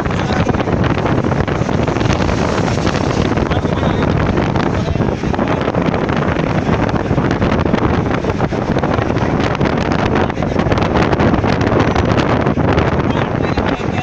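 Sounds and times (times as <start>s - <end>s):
loud steady rushing noise: 0.0s - 14.0s.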